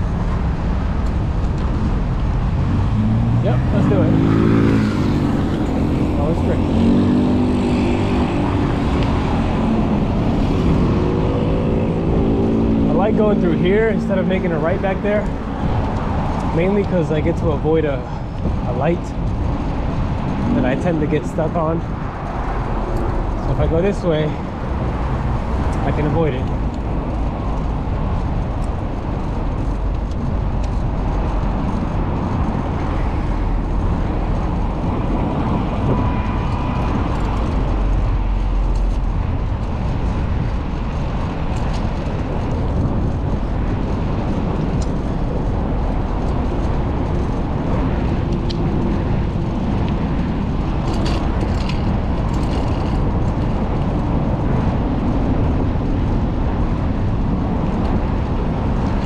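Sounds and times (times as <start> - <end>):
road and wind rumble: 0.0 - 59.0
street traffic: 0.0 - 59.0.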